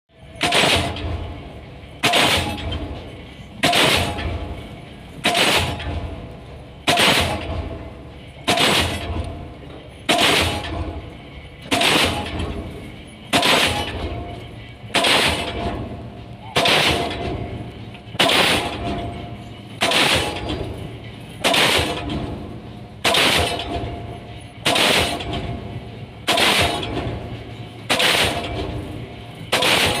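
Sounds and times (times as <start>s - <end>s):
pile-driving hammer blows: 0.1s - 30.0s
ringing rumble: 0.1s - 30.0s.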